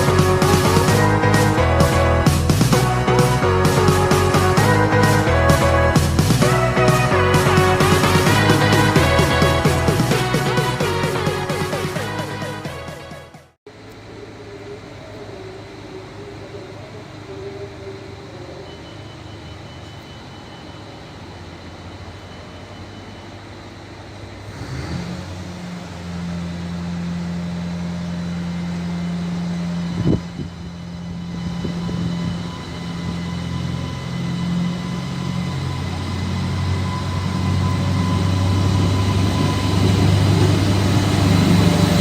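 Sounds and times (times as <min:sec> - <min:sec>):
diesel railcar engine drone: 0:00.0 - 0:42.0.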